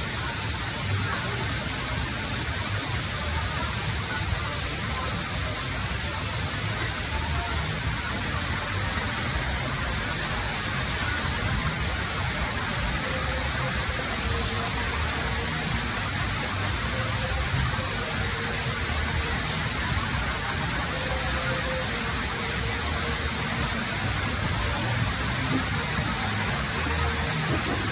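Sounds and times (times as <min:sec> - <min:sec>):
rain on wet street: 0:00.0 - 0:27.9.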